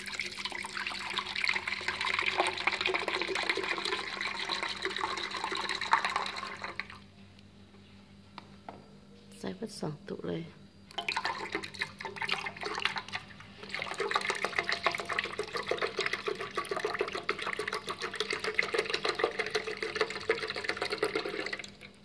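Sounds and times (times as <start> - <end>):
milk pouring into blender jar: 0.0 - 7.0, 10.9 - 22.0.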